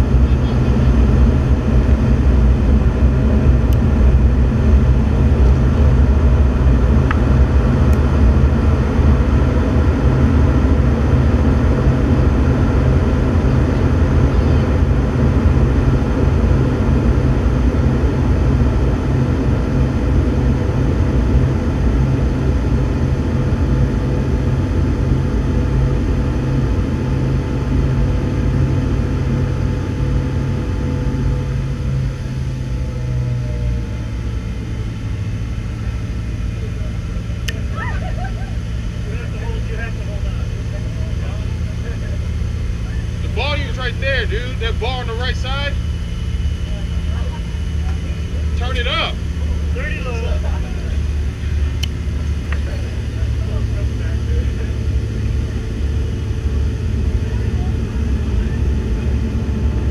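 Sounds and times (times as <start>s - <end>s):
jet aircraft cabin noise: 0.0s - 59.9s.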